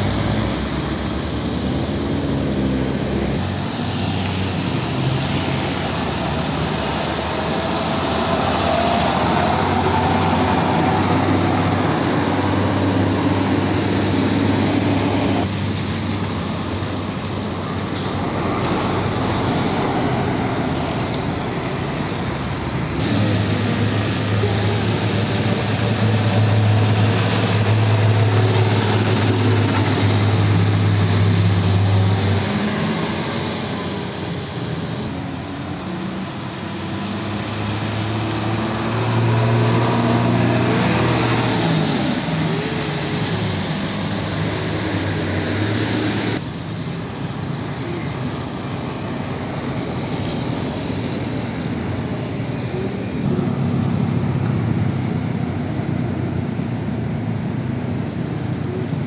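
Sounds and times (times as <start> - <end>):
diesel trucks passing: 0.0 - 59.0.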